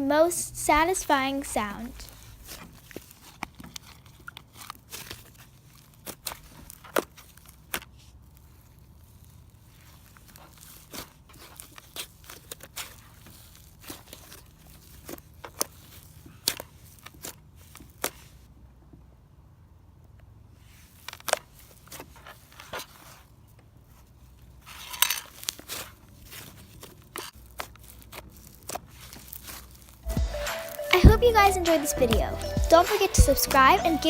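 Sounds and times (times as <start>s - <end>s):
slime crackling being kneaded: 0.1s - 18.4s, 20.6s - 33.0s.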